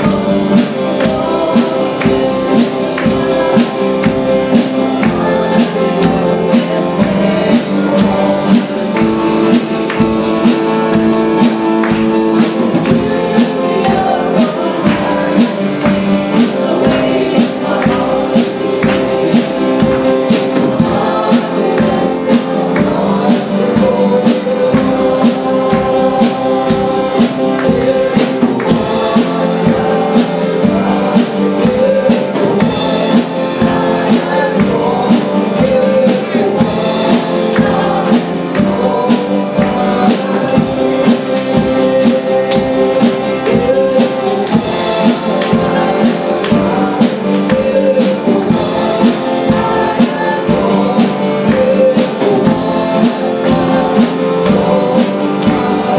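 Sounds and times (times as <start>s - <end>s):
band playing worship music: 0.0s - 55.9s
people singing: 0.0s - 55.9s.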